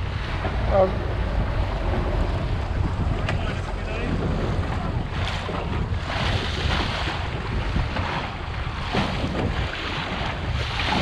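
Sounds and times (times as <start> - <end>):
water splashing along hull: 0.0 - 11.0
wind buffeting microphone: 0.0 - 11.0.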